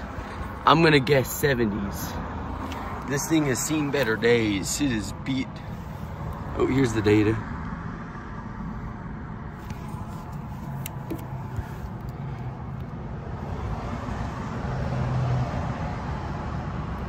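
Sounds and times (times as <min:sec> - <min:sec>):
faint engine hum: 0:00.0 - 0:17.0
road traffic rumble: 0:00.0 - 0:17.0.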